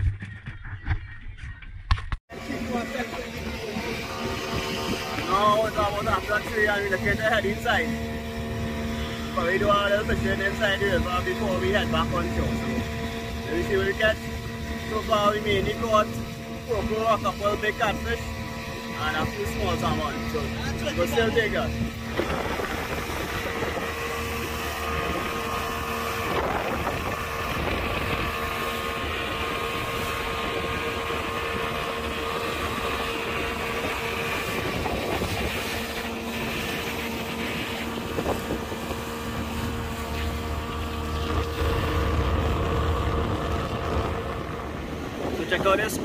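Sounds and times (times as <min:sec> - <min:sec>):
wind buffeting microphone: 0:00.0 - 0:46.0
boat engine drone: 0:02.3 - 0:46.0
water rushing past hull: 0:02.3 - 0:46.0.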